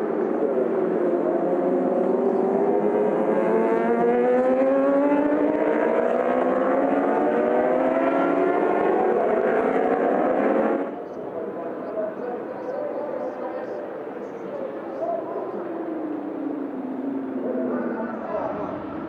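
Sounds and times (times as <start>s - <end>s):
racing motorcycles passing: 0.0s - 19.0s.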